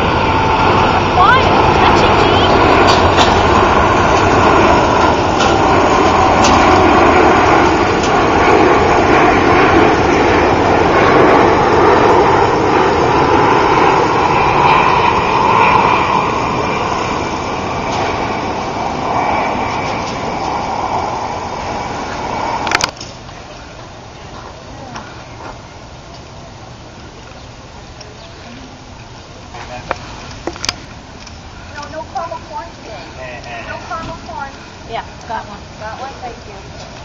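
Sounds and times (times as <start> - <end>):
jet airliner passing overhead: 0.0 - 37.0.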